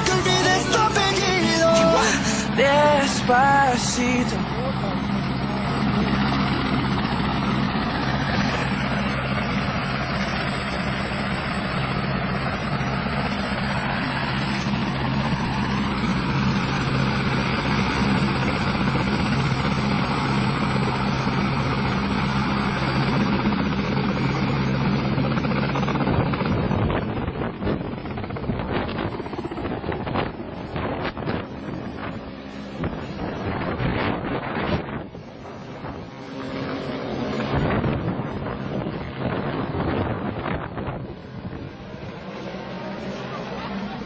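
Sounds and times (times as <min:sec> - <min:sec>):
helicopter running: 0:00.0 - 0:44.0.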